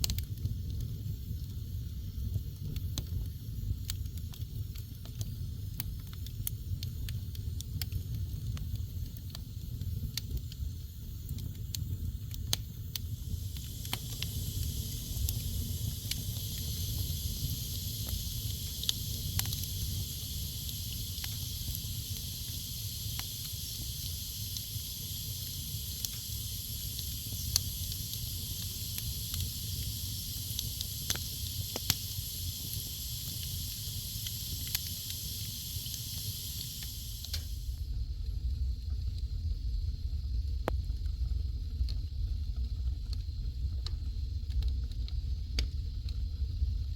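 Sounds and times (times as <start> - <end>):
fire crackling in a fireplace: 0.0 - 46.9
steady high hiss: 0.1 - 38.1.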